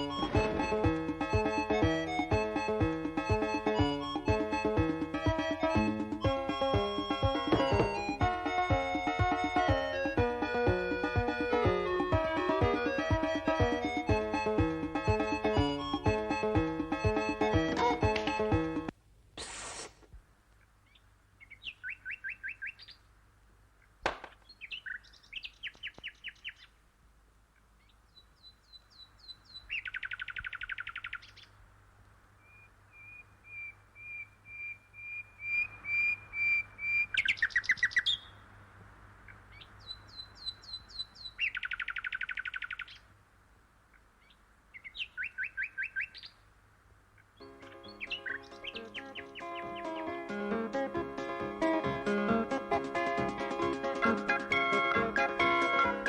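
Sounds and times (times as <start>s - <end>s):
small birds chirping: 0.0s - 19.9s, 20.5s - 43.2s, 43.8s - 52.6s.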